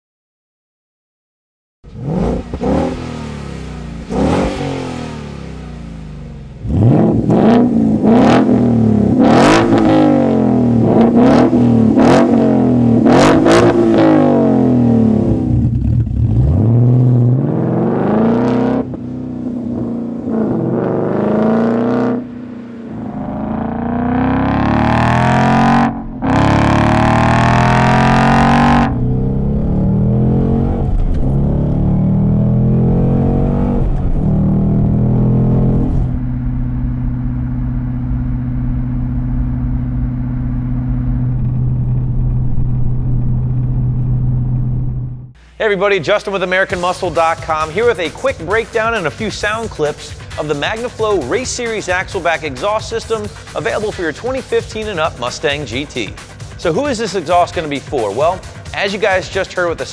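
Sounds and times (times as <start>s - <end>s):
car engine idling and revving: 1.8s - 45.4s, 46.5s - 59.9s.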